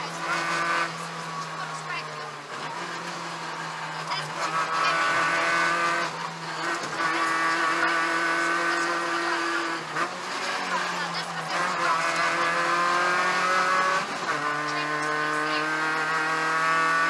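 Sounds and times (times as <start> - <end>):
car engine running hard: 0.0 - 17.0.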